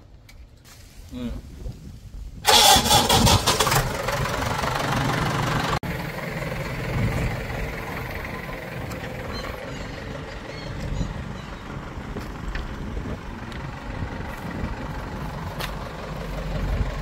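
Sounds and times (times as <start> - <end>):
diesel engine running: 2.4 - 17.0.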